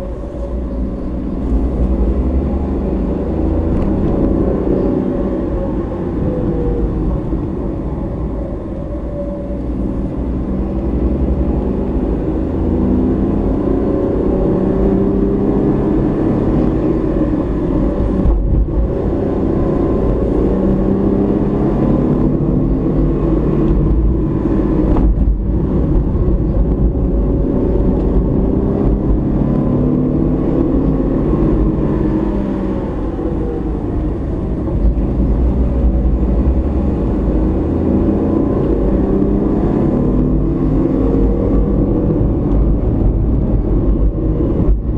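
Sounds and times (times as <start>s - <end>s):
car engine: 0.0s - 44.9s
tyre and road noise: 0.0s - 44.9s.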